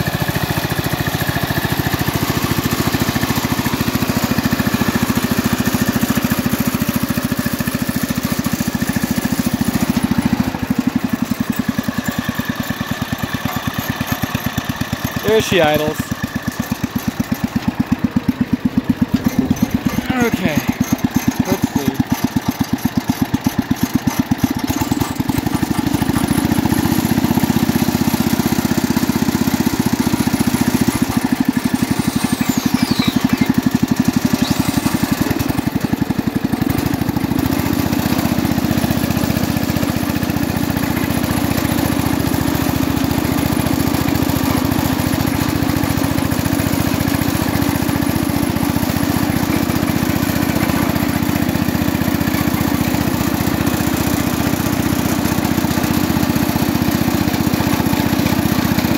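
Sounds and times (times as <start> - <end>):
garden tractor engine puttering: 0.0 - 58.9.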